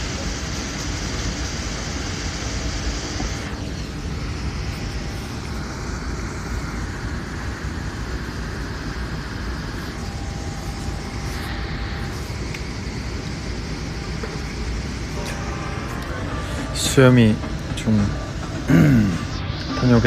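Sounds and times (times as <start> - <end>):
airliner cabin rumble and hiss: 0.0 - 20.0.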